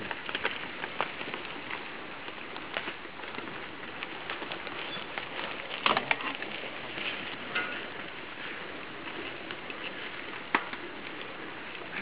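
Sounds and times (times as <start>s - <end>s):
bike tyres rustling on dirt: 0.0s - 12.0s
crackles and clicks: 0.0s - 12.0s.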